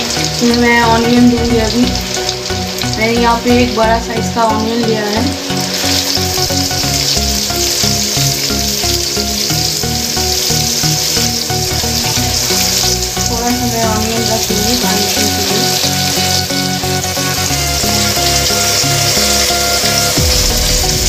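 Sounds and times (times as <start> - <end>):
onions sizzling in hot oil: 0.0 - 21.0
soft background music: 0.0 - 21.0.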